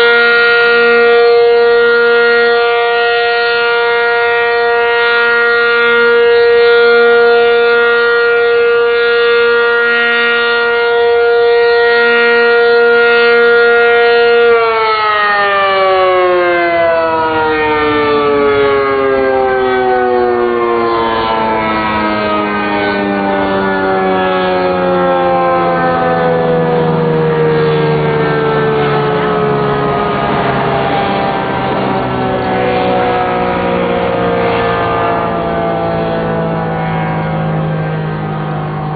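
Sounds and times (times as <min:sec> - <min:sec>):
alert siren winding down: 0:00.0 - 0:38.9.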